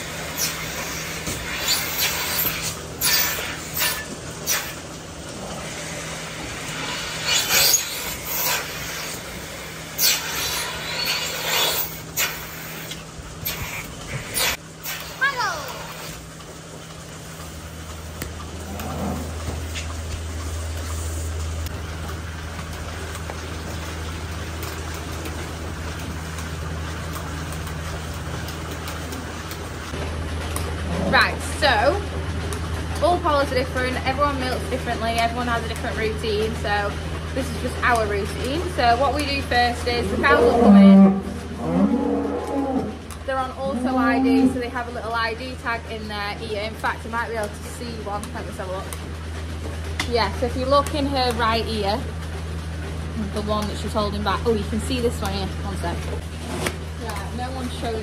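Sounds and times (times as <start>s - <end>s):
machinery humming: 0.0s - 58.0s.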